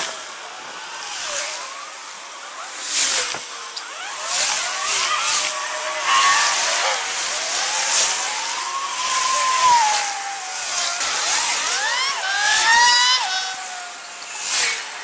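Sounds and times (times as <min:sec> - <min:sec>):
gliding engine tones: 0:00.0 - 0:15.0.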